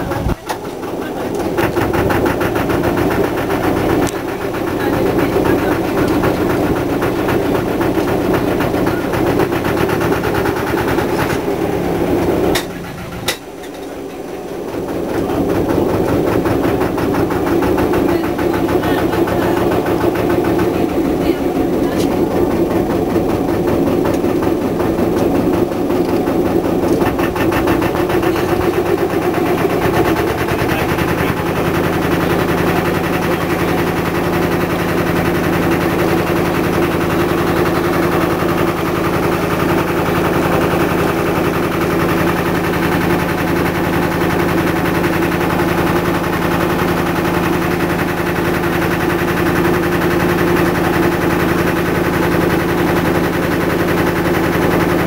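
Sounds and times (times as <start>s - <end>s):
boat engine knocking: 0.0s - 55.0s.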